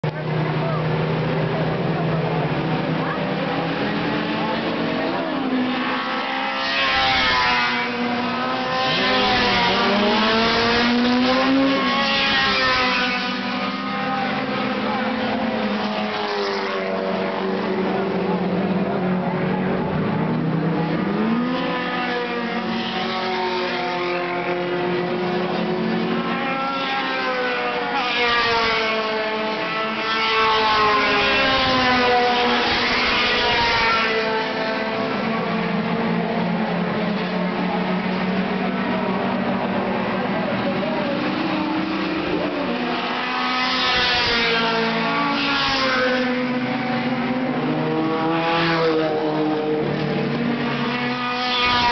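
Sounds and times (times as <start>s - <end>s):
engine revving: 0.0s - 51.9s
race car engines: 0.0s - 51.9s.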